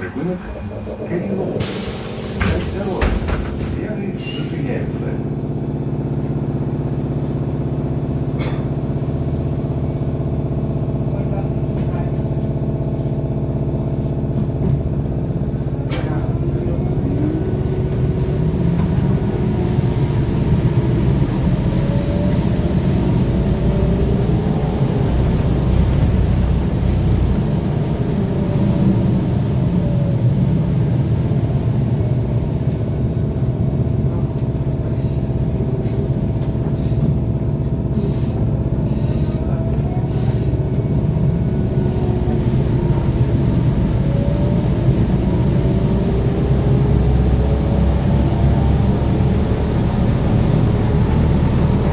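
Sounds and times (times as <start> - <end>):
road rumble: 0.0 - 51.9.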